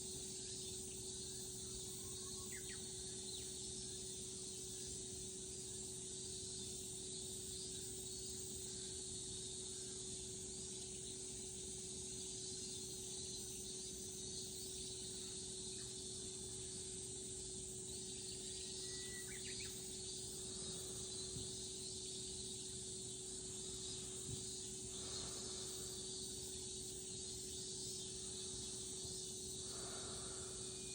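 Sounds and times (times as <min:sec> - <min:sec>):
insects chorus: 0:00.0 - 0:30.9.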